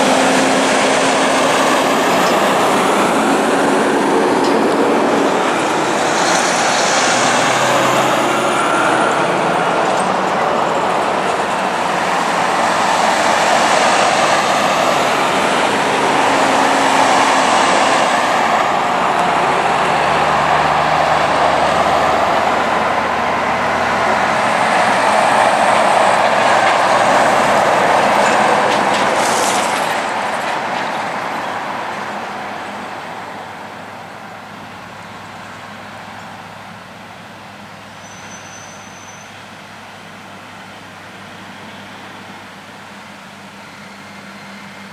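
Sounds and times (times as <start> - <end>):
diesel engine drone: 0.0 - 38.0
tyre noise on road: 0.0 - 44.9.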